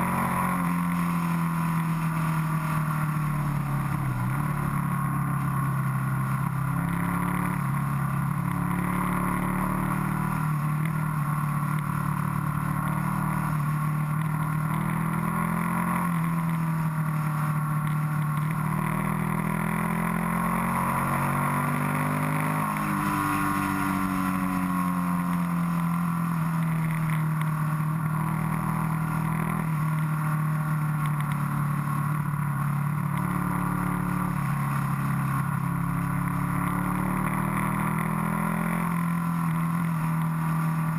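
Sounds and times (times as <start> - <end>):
motorcycle engine revving: 0.0 - 40.9
wind and road noise: 0.0 - 40.9.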